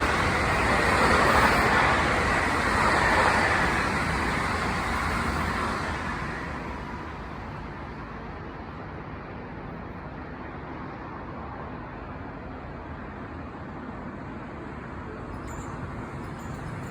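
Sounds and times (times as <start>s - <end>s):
electric train passing: 0.0s - 16.9s.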